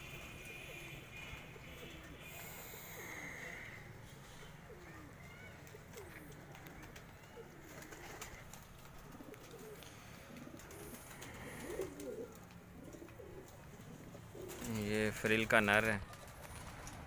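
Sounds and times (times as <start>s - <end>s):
pigeons cooing: 0.0s - 15.2s.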